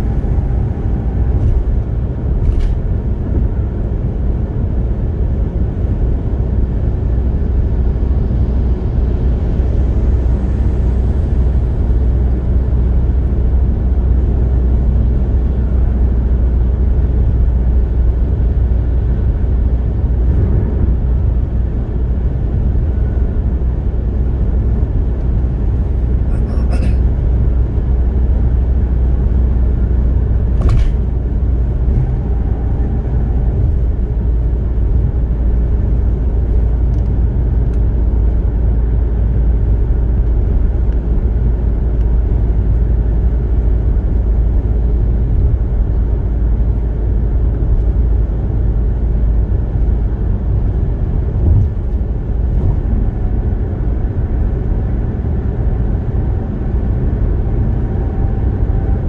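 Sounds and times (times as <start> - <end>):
road and tyre rumble: 0.0 - 59.0.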